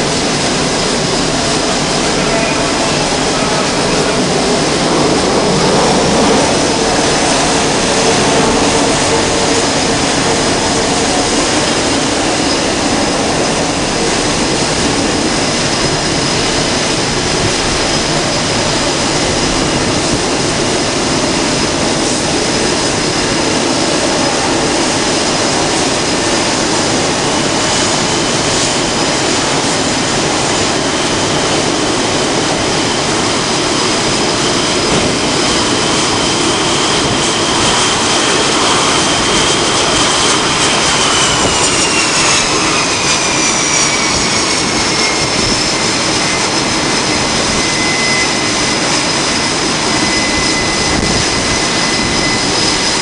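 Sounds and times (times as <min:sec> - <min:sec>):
high jet whine: 0:00.0 - 0:53.0
jet engines roaring: 0:00.0 - 0:53.0.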